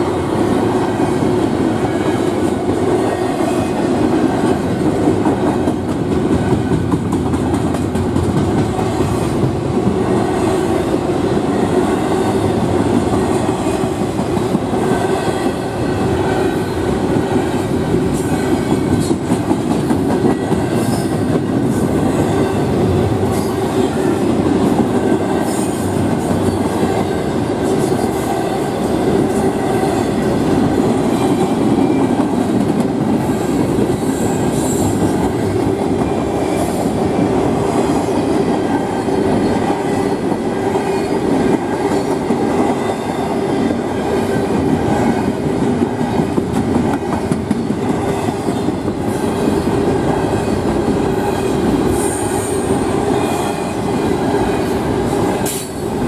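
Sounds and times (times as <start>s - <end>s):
steel wheels rumbling on track: 0.0s - 56.0s
clickety-clack over rail joints: 0.4s - 52.6s.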